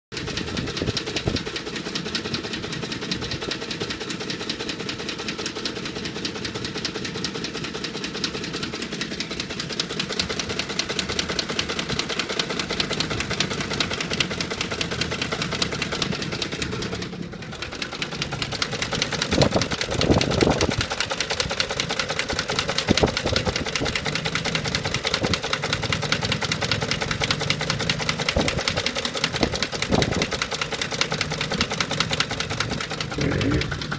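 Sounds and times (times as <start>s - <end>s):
rapid engine knocking: 0.1s - 33.9s
truck engine idling: 0.2s - 33.9s.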